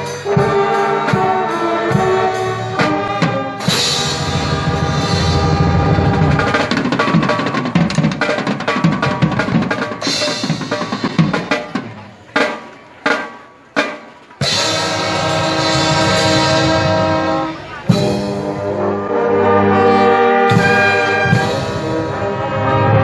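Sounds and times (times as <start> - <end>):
snare and bass drums: 0.0 - 18.8, 20.4 - 22.3
marching band playing: 0.0 - 23.0.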